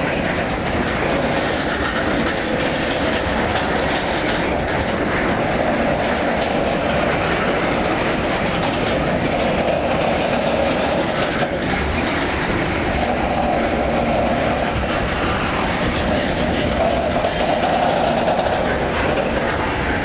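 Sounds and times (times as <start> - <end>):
steel wheels on rail: 0.0 - 20.0.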